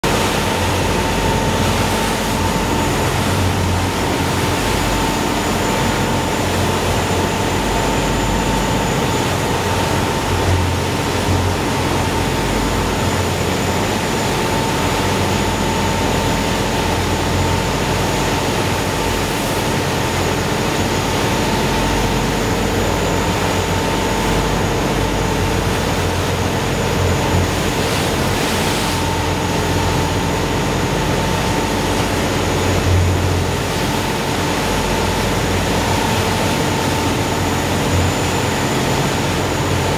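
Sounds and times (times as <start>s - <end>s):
boat engine drone with whine: 0.0s - 39.9s
wake water rushing: 0.0s - 39.9s.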